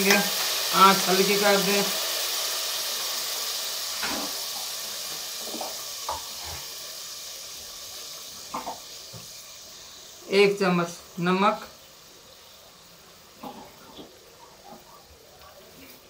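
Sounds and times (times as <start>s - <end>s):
masala sizzling in a pot: 0.0s - 16.0s.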